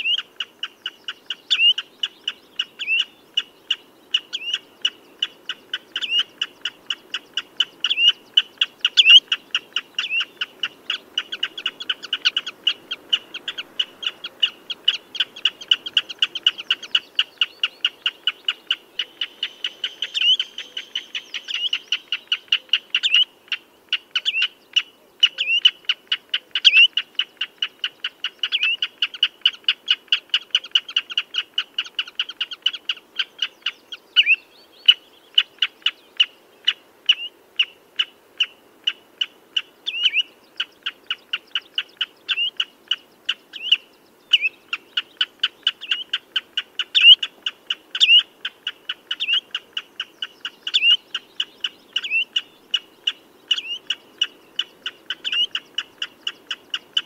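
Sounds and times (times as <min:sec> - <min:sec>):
bird piping calls: 0:00.0 - 0:57.0.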